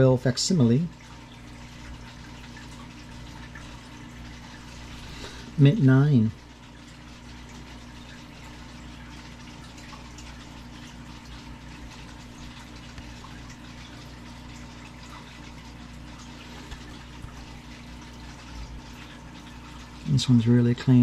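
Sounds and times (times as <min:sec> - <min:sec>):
constant hum: 0:00.0 - 0:21.0.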